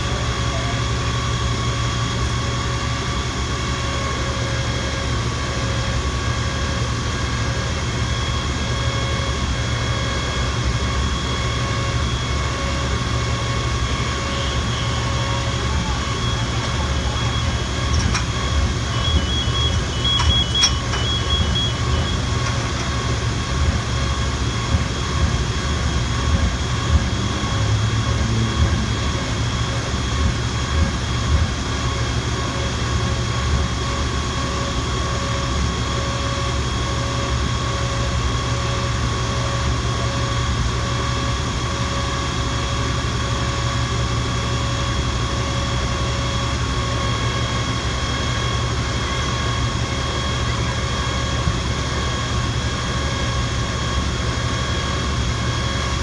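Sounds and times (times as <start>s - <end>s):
fire engine running: 0.0s - 56.0s
thin steady whine: 0.0s - 56.0s.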